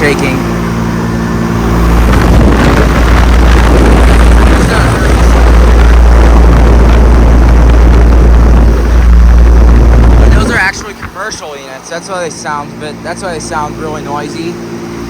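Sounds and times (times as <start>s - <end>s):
compressor humming: 0.0s - 15.0s
condenser fan rushing: 0.0s - 15.0s.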